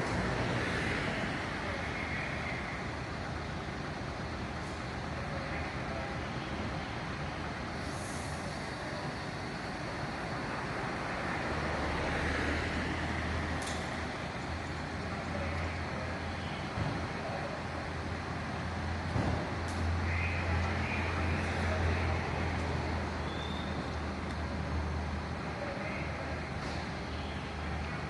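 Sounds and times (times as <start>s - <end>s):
large vehicle engine droning: 0.0s - 28.0s
street noise: 0.0s - 28.0s.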